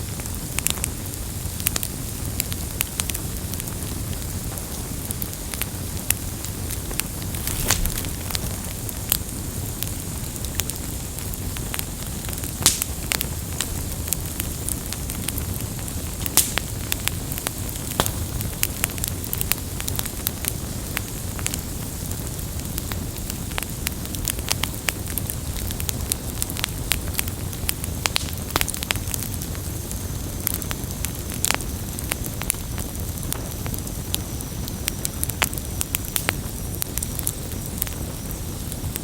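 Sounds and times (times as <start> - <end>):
burning wood crackling and popping: 0.0 - 39.0
campfire flames hissing: 0.0 - 39.0.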